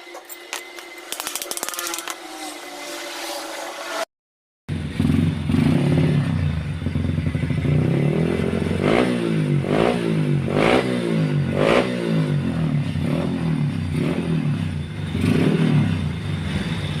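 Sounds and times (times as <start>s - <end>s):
motorcycle engine revving: 0.9s - 4.1s, 4.7s - 17.0s.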